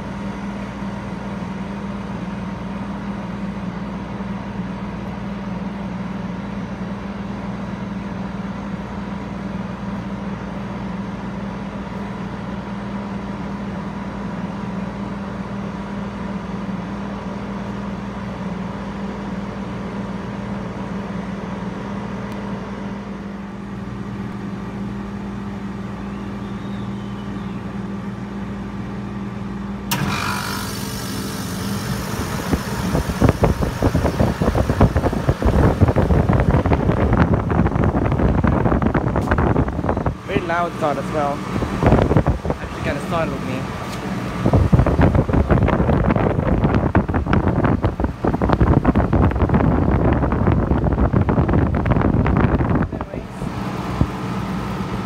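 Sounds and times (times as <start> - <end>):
air conditioner unit humming: 0.0 - 55.0
fan air buffeting microphone: 0.0 - 55.0.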